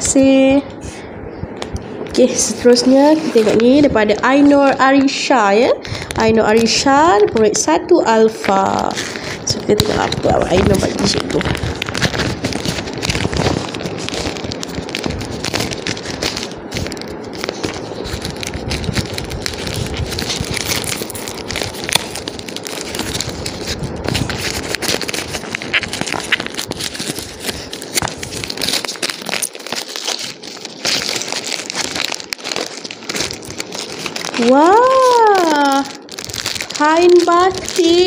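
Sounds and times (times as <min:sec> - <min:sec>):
plastic and paper crinkling: 0:02.0 - 0:38.0.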